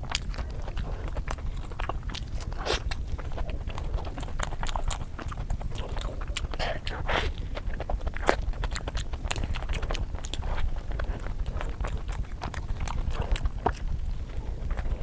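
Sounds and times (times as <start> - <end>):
person chewing crunchy food: 0.0 - 15.0
steady low rumble: 0.0 - 15.0
wet mouth clicks: 0.0 - 15.0.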